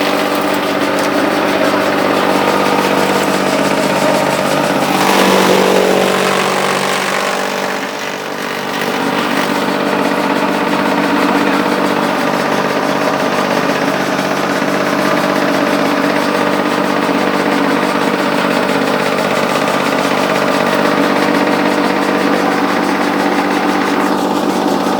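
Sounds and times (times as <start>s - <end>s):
chaff cutter mechanical drone: 0.0s - 24.9s.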